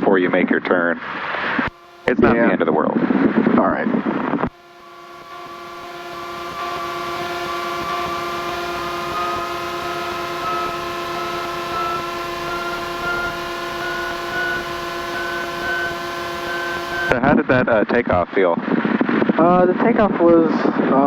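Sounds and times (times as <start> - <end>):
propeller plane engine drone: 0.0 - 17.3.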